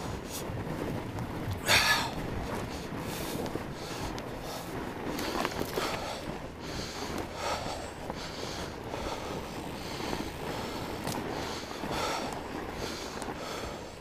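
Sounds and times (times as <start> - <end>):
bike tires crunching on snow: 0.0 - 14.0
rider breathing heavily: 0.0 - 14.0.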